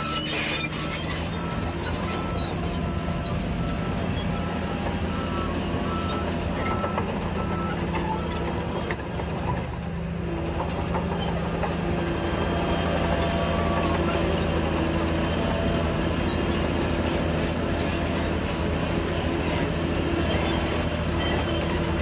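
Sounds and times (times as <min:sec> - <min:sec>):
bulldozer diesel engine: 0:00.0 - 0:22.0
steel tracks clanking: 0:00.0 - 0:22.0.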